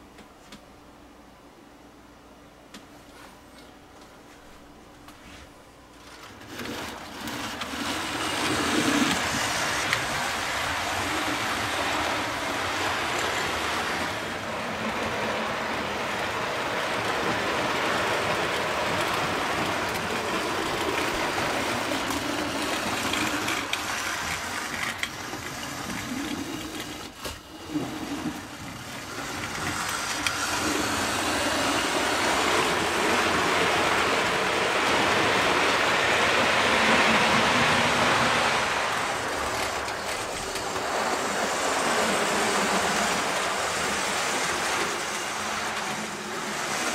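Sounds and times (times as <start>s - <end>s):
model train motor whirring on rails: 6.0s - 46.9s.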